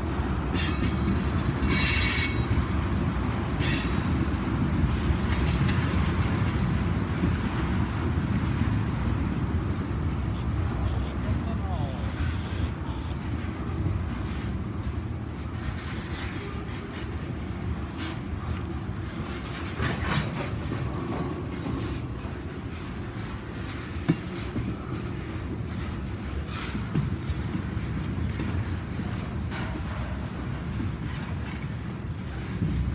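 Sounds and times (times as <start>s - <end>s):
freight train wheels rumbling: 0.0s - 32.9s
sharp clicks of train wheels: 0.4s - 10.9s, 13.8s - 32.9s.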